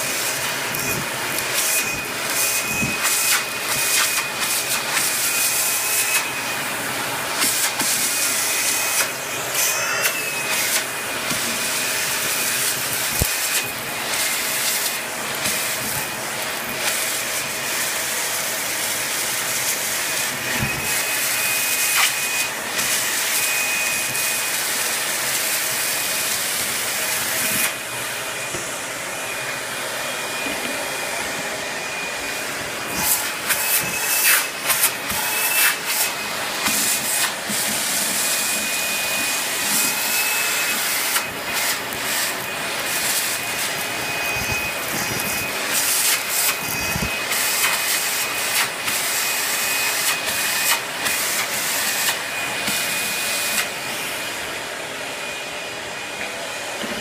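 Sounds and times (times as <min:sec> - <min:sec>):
vacuum cleaner on carpet: 0:00.0 - 0:57.0.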